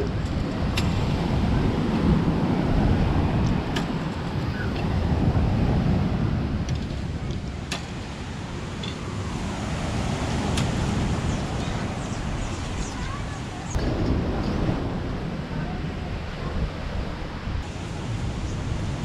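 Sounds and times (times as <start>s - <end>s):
wind gusting over microphone: 0.0s - 19.0s.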